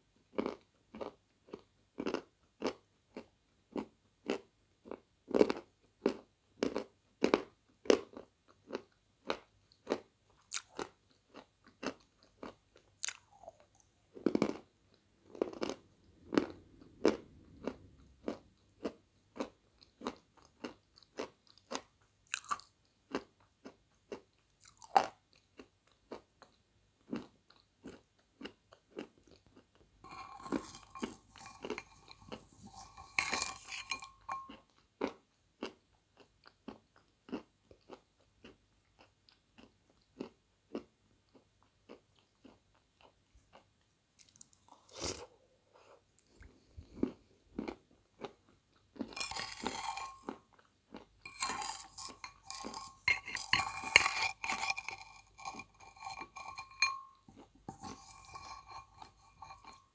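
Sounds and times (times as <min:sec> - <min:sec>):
crunching and chewing clay: 0:00.2 - 0:45.3, 0:46.3 - 0:59.9.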